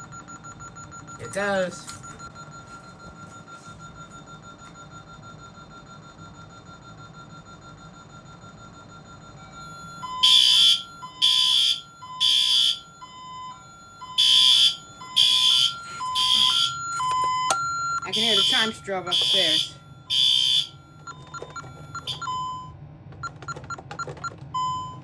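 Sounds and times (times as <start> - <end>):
piercing alarm beeps: 0.0 - 25.0
steady alarm tone: 0.0 - 25.0.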